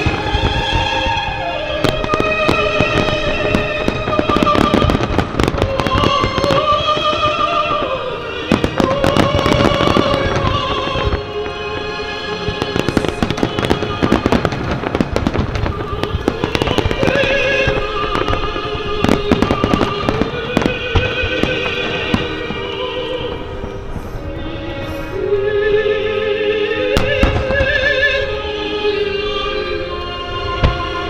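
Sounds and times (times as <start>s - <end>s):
fireworks bursting and crackling: 0.0s - 31.0s
music with long held notes: 0.0s - 31.0s.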